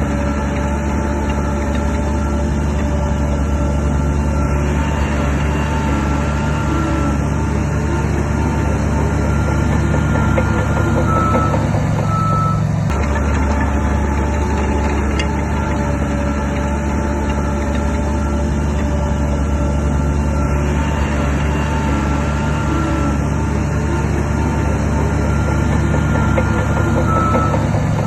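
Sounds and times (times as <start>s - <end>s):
heavy machinery diesel drone: 0.0s - 28.0s
reversing alarm beeping: 0.1s - 28.0s.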